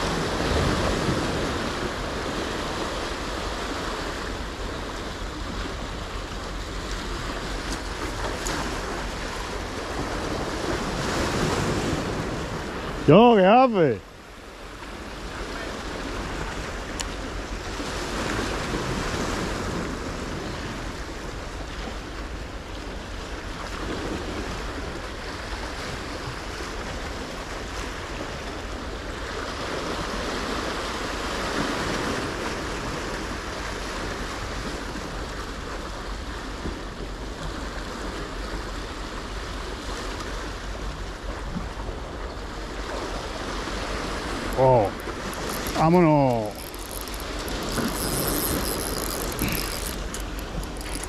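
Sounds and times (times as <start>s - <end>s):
waves breaking on rocks: 0.0s - 51.0s.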